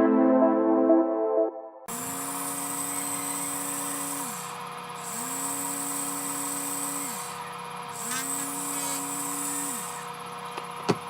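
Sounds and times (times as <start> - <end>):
small electric motor whining: 1.9 - 11.0.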